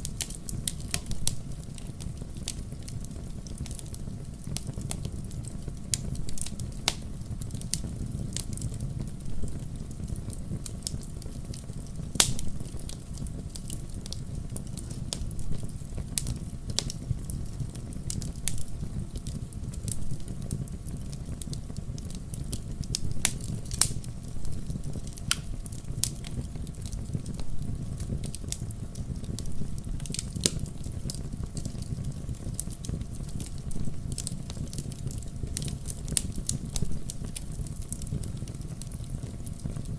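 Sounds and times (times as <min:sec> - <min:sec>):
fire crackles and pops: 0:00.0 - 0:39.9
fire rumbling in fireplace: 0:00.0 - 0:39.9.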